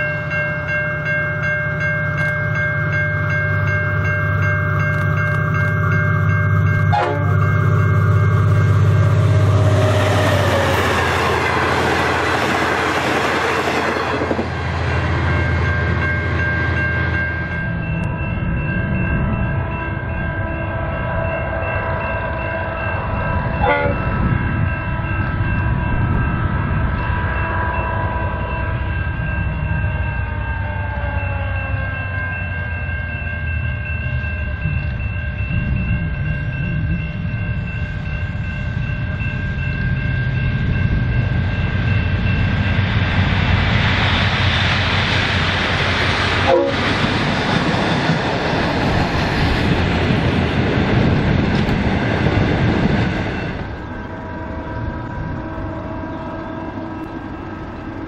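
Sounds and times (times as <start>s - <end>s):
locomotive engine rumble: 0.0s - 58.0s
wheels on rails: 0.0s - 58.0s.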